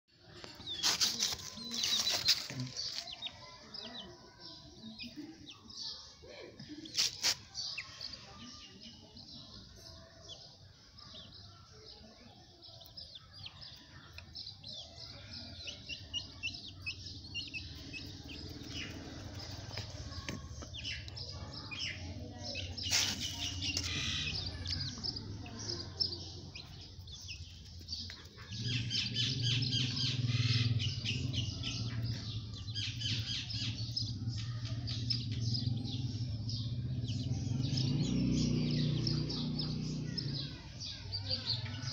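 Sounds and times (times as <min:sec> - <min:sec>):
chicks peeping and chirping: 0:00.1 - 0:41.9.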